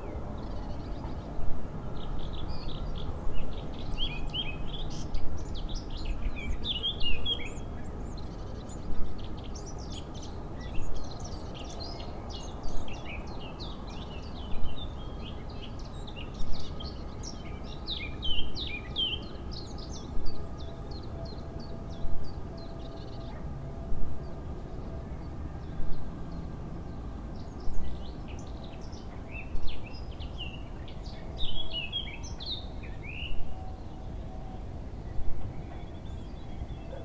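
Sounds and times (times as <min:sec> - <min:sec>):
low background noise: 0:00.0 - 0:37.0
songbirds chirping: 0:00.0 - 0:37.0.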